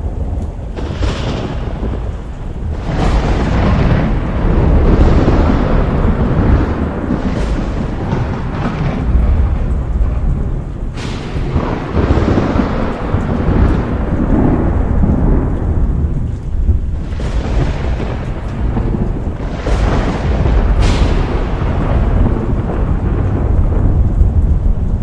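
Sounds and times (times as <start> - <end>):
sharp thunder cracks: 0.0 - 25.0
steady rain: 0.0 - 25.0
thunder rumbling: 0.0 - 25.0.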